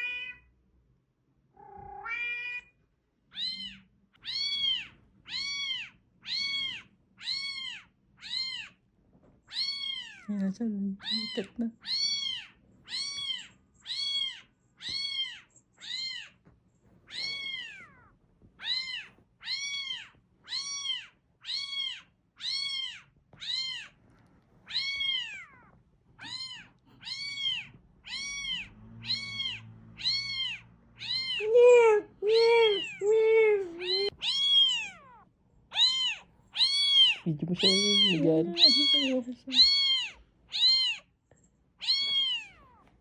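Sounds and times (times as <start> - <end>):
cat meowing loudly: 0.0 - 0.5, 1.6 - 8.8, 9.5 - 10.3, 11.0 - 16.4, 17.1 - 24.0, 24.6 - 41.1, 41.8 - 42.9
recorded high-pitched cat meow: 0.0 - 0.5, 1.5 - 8.8, 9.4 - 10.4, 11.0 - 16.4, 17.0 - 24.0, 24.6 - 41.2, 41.8 - 43.0.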